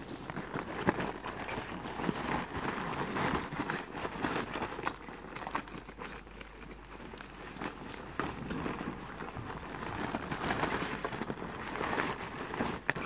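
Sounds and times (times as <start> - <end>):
fabric rustling and crinkling: 0.0 - 13.0.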